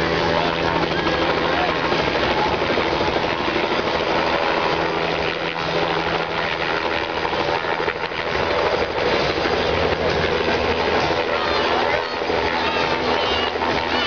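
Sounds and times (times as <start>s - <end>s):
helicopter rotor beating: 0.0s - 14.0s.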